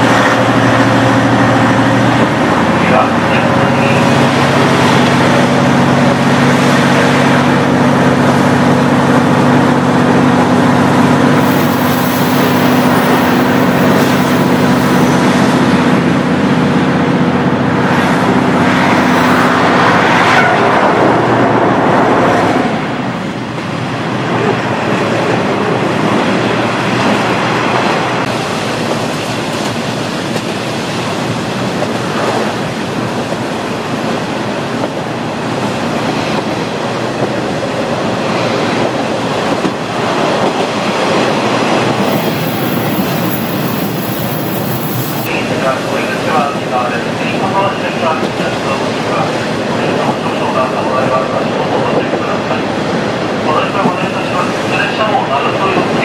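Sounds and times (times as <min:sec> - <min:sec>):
diesel engine drone: 0:00.0 - 0:31.8, 0:41.4 - 0:56.0
wheels rumbling on rail: 0:00.0 - 0:56.0.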